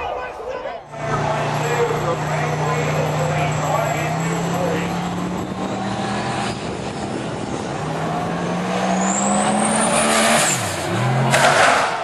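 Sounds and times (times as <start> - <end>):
car engine revving: 0.9 - 12.0.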